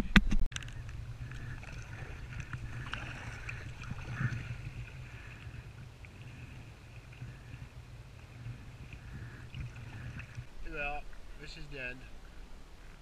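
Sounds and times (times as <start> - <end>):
paddle dipping in water: 0.6 - 11.4
water lapping along hull: 0.6 - 13.0.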